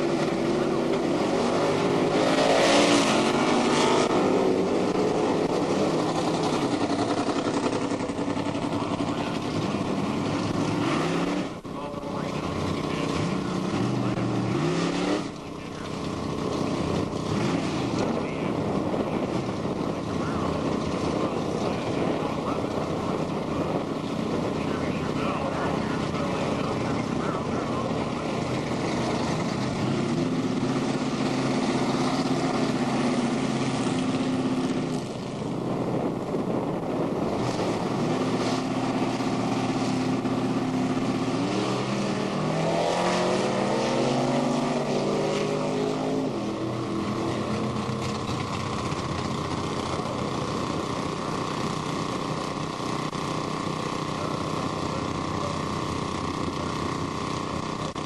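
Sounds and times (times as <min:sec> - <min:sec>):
drag racing car engines revving: 0:00.0 - 0:58.0.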